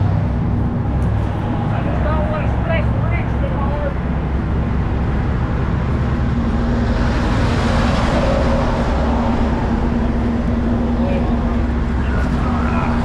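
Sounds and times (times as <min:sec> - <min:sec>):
heavy truck diesel engines rumbling: 0:00.0 - 0:13.0
steady hum: 0:00.0 - 0:13.0
vehicle passing: 0:00.0 - 0:13.0.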